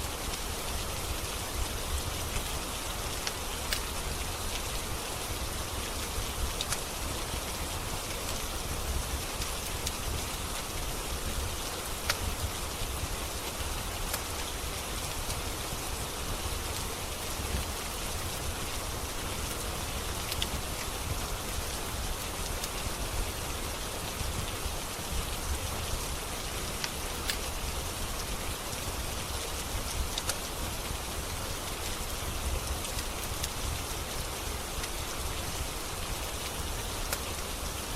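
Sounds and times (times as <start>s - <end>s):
rain hiss: 0.0s - 37.9s
wood fire crackling: 0.1s - 37.9s.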